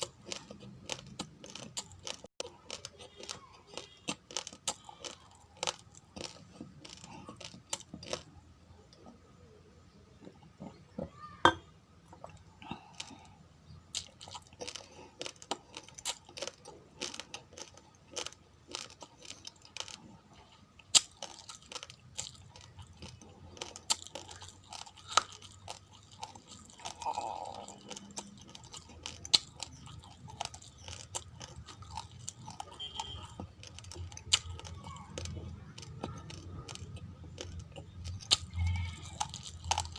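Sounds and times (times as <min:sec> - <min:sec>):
chewing raw rice grains: 0:00.0 - 0:09.3, 0:12.1 - 0:39.9.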